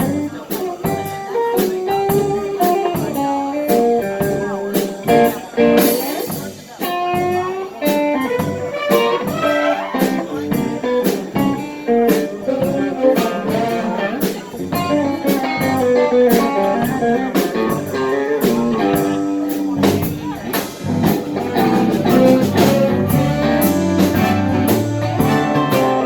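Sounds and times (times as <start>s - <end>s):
plucked guitar notes: 0.0s - 6.2s, 6.8s - 26.0s
steady beat: 0.0s - 26.0s.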